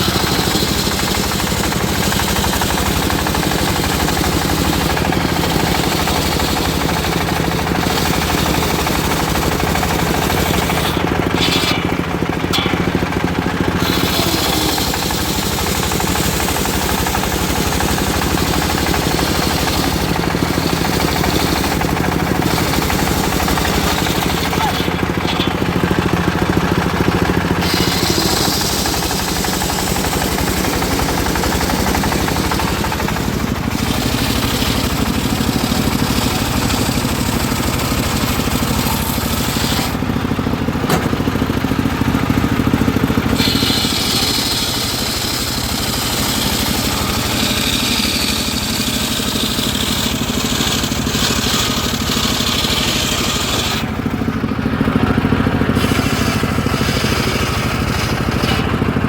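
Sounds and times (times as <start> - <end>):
saw blade cutting log: 0.0 - 59.0
sawmill engine running: 0.0 - 59.0.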